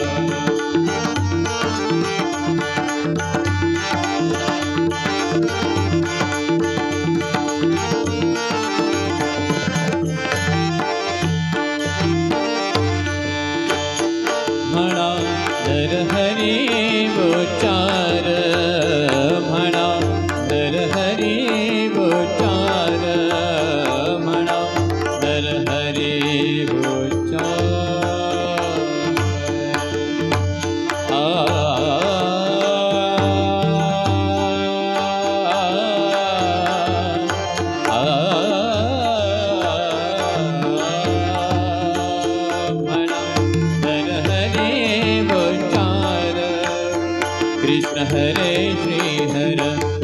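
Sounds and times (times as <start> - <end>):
instrumental melody: 0.0 - 50.0
tabla drum beat: 0.0 - 50.0.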